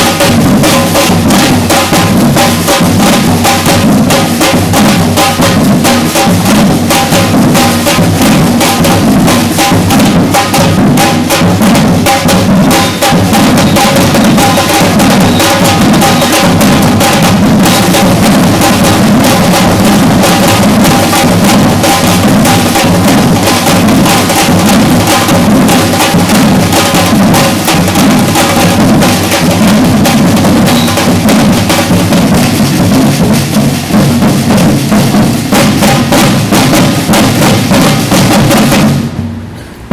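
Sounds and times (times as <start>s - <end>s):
bass drums: 0.0s - 39.9s
rattling snare drums: 0.0s - 39.9s.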